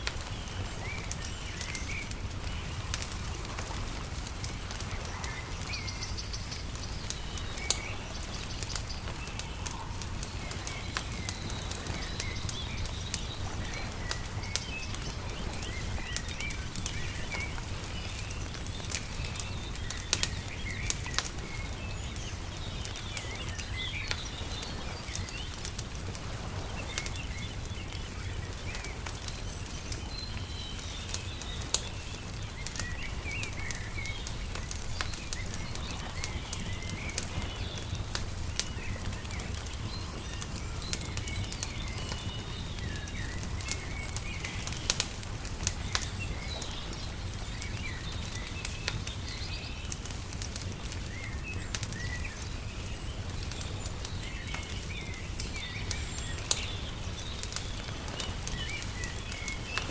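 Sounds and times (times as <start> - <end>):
small birds chirping: 0.0 - 59.9
wood fire crackling and popping: 0.0 - 59.9.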